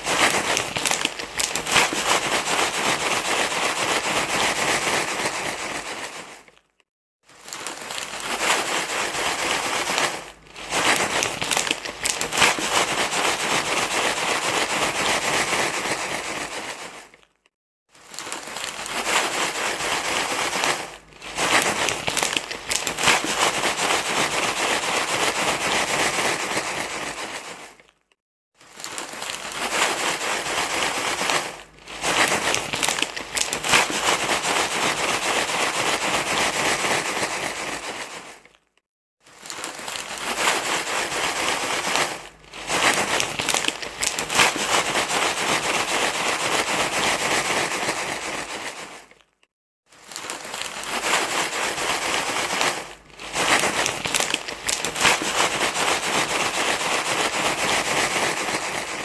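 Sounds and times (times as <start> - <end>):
crackly rustling and crinkling: 0.0 - 59.0.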